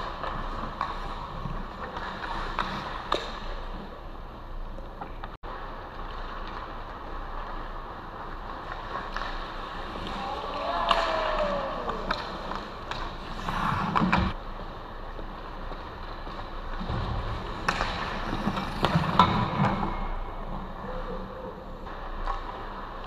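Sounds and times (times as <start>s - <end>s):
skate blades scraping ice: 0.0s - 4.9s, 5.5s - 23.0s
sticks and puck clacking: 0.0s - 23.0s.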